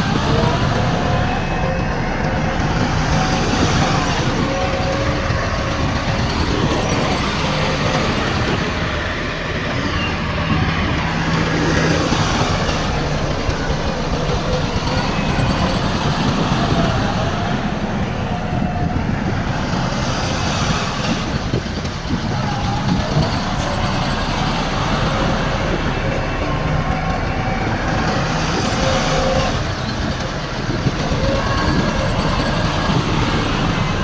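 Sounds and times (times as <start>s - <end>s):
heavy machinery diesel rumble: 0.0s - 34.0s.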